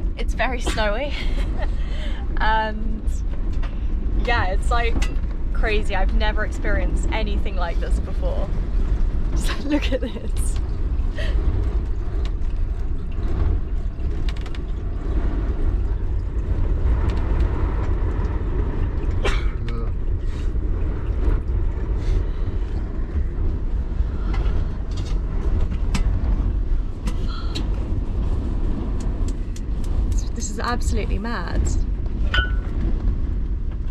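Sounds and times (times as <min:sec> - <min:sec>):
gusting blizzard wind: 0:00.0 - 0:33.9.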